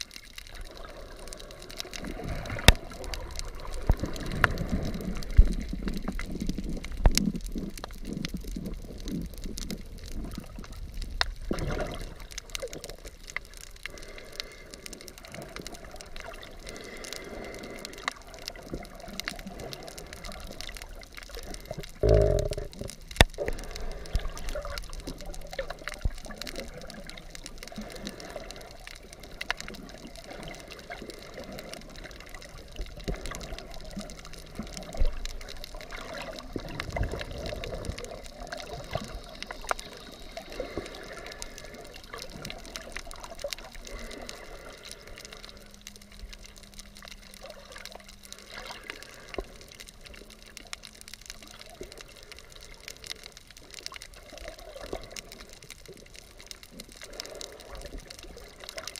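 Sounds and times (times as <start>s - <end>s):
muffled underwater water movement: 0.0s - 58.9s
sharp underwater clicks and crackles: 0.0s - 58.9s.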